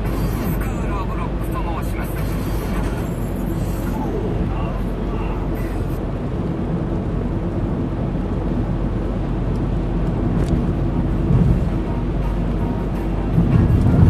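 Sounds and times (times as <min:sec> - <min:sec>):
car engine rumble: 0:00.0 - 0:14.0
tyres on road: 0:00.0 - 0:14.0.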